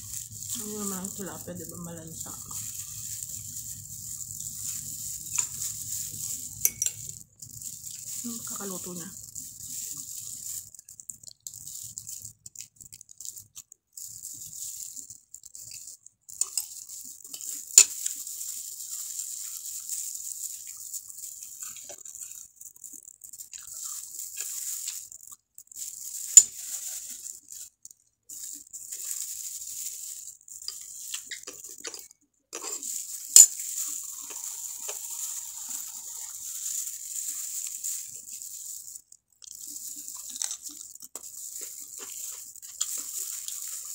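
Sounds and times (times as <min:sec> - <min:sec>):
plastic gloves rustling: 0:00.0 - 0:43.9.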